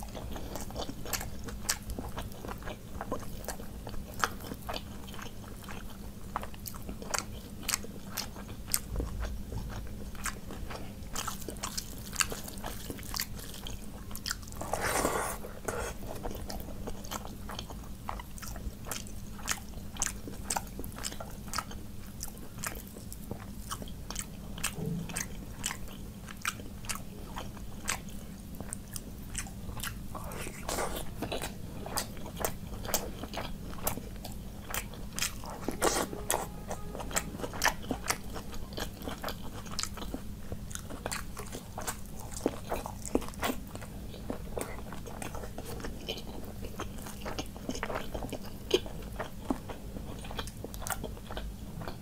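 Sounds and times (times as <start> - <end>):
faint steady hum: 0.0 - 52.0
person chewing food: 0.0 - 52.0.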